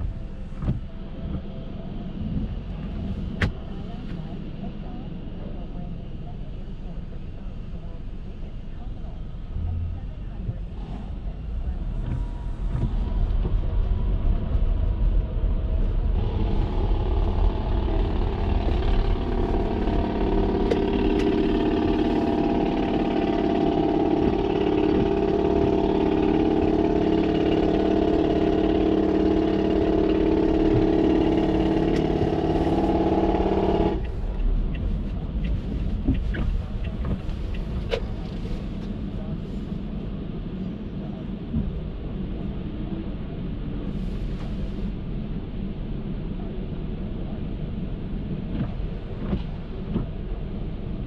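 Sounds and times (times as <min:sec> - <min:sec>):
road noise rumble while driving: 0:00.0 - 0:51.0
steady droning hum: 0:00.0 - 0:51.0.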